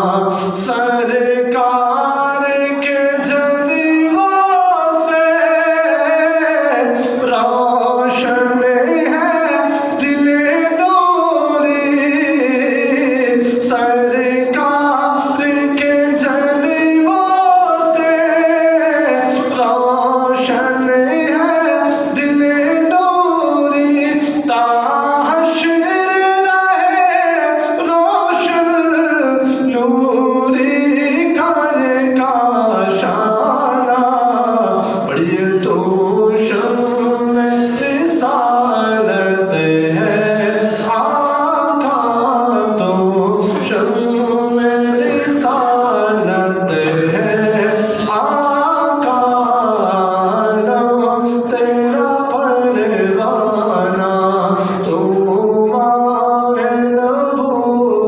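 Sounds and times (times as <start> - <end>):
person singing devotional poem: 0.0 - 58.0.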